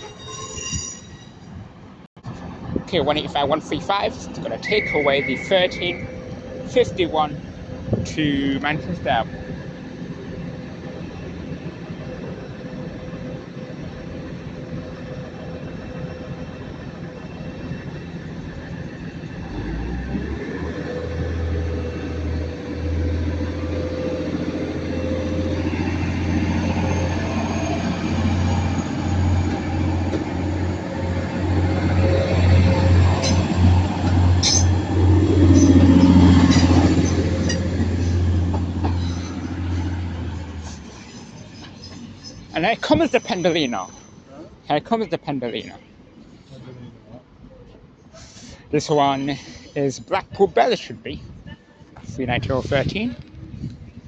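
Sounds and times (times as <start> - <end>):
diesel train engines humming: 0.0 - 54.0.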